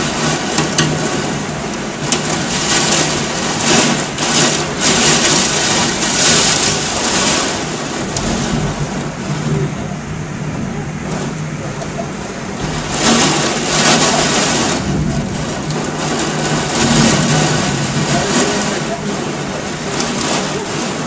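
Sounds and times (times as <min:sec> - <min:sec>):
wind-driven rain on window: 0:00.0 - 0:21.0.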